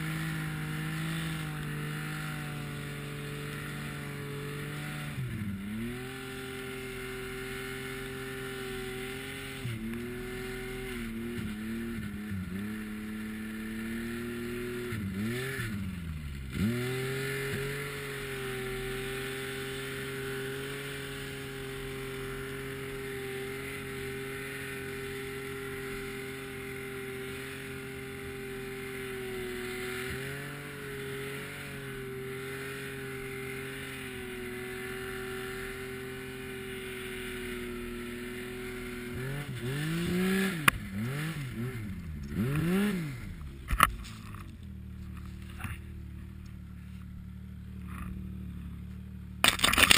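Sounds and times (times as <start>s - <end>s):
snowmobile engine running: 0.0s - 49.9s.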